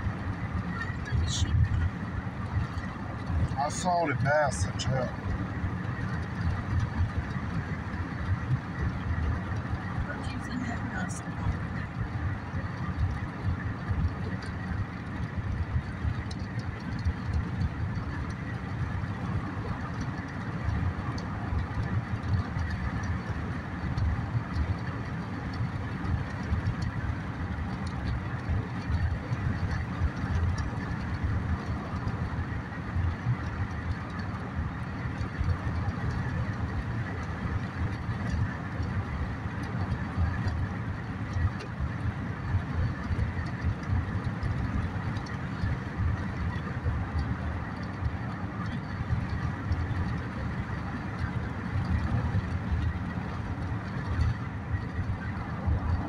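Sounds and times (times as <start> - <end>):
car cabin road and engine rumble: 0.0 - 56.0.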